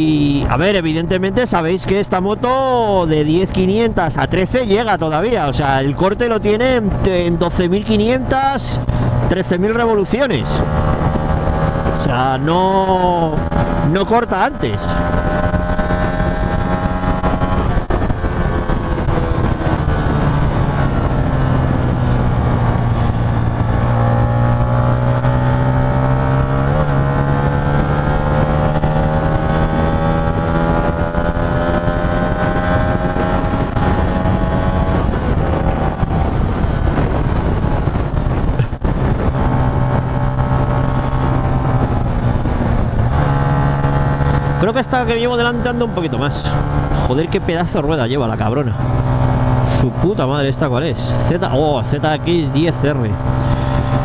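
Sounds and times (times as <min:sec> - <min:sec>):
wind rushing over microphone: 0:00.0 - 0:54.0
motorcycle engine running: 0:03.8 - 0:54.0.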